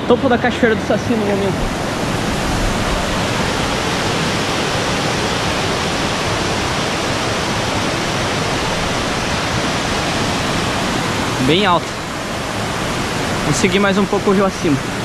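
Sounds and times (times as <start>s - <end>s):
waterfall rushing over rock: 0.0s - 15.0s.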